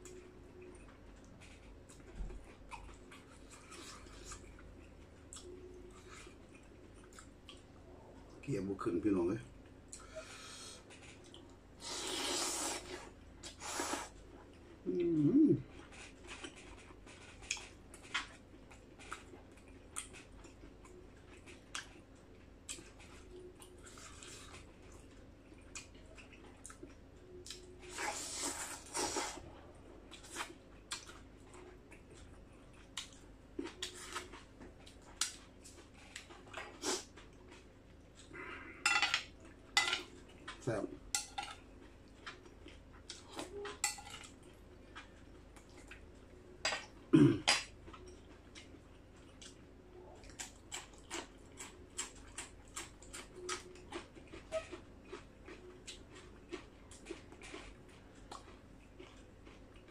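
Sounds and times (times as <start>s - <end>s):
chewing: 0.0s - 8.4s, 9.5s - 11.6s, 13.0s - 40.6s, 41.6s - 59.9s.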